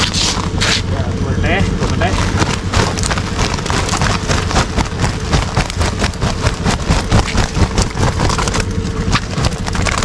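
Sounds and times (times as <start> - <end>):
fish slapping and scraping: 0.0 - 0.9, 1.7 - 10.0
steady low hum: 0.0 - 10.0.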